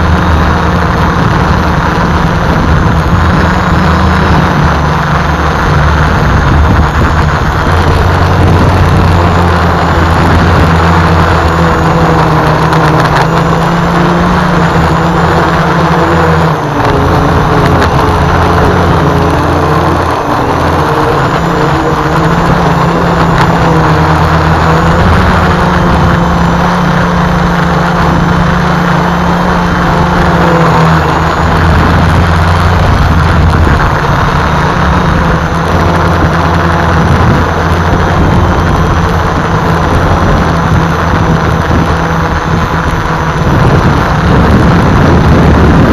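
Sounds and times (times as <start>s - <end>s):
multicopter propellers whining: 0.0s - 45.9s.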